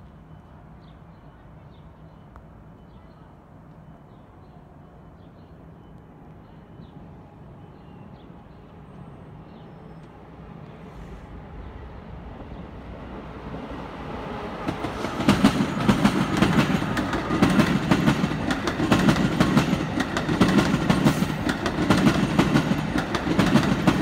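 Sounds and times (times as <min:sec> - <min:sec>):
low rumble of trackside ambience: 0:00.0 - 0:24.0
train approaching: 0:00.0 - 0:24.0.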